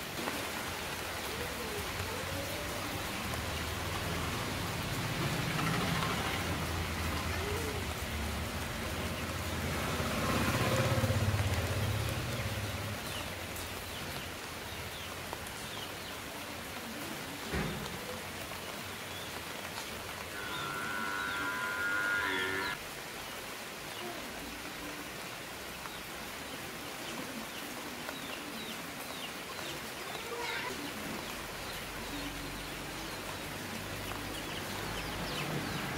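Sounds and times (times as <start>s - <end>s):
rain on plants: 0.0s - 35.9s.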